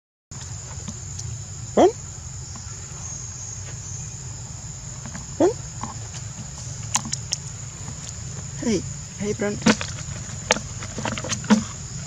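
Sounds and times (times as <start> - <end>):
insects droning: 0.3 - 12.0.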